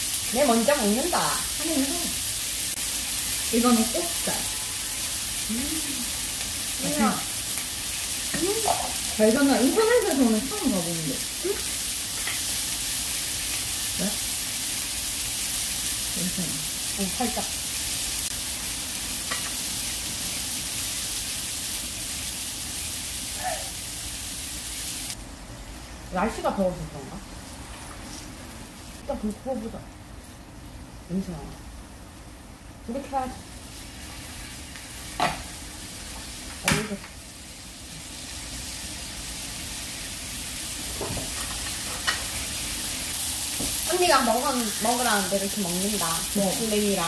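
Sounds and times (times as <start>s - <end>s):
meat sizzling: 0.0s - 30.9s, 31.6s - 47.0s.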